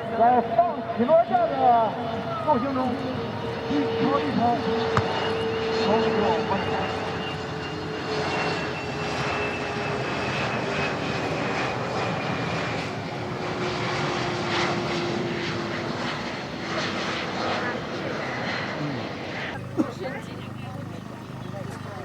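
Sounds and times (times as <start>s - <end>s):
jet engine whine: 0.0s - 22.0s
jet engines rushing: 0.0s - 22.0s.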